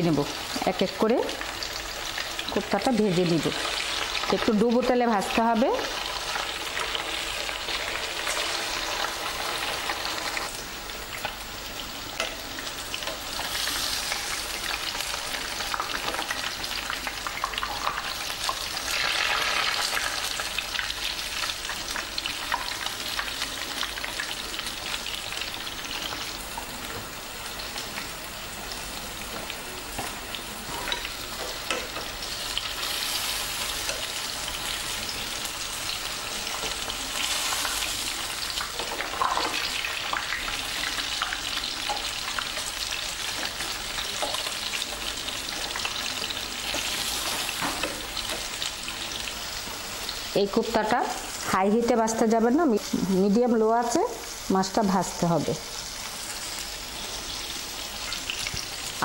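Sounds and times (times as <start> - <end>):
fish deep-frying in oil: 0.0 - 59.0.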